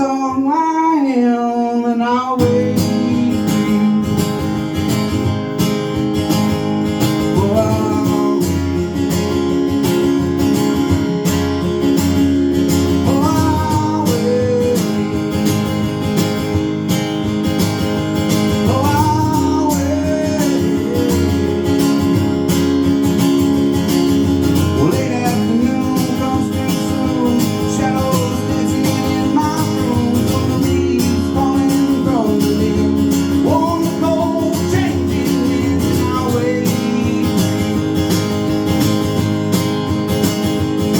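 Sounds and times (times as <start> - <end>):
acoustic guitar country song: 0.0 - 40.9.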